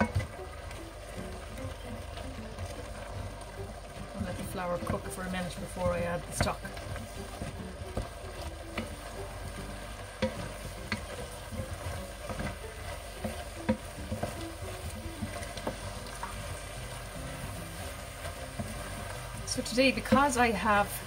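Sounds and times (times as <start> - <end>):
food sizzling in a pan: 0.0 - 21.0
utensil scraping pan: 4.0 - 21.0.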